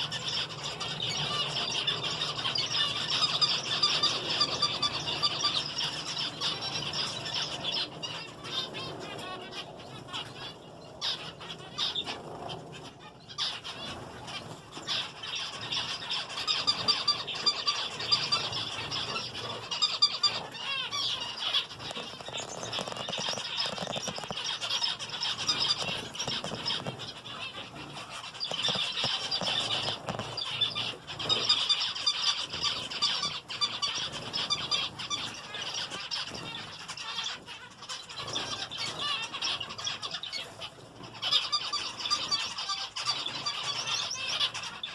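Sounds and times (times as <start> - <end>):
wings fluttering: 0.0 - 40.8
finches chattering: 0.0 - 44.9.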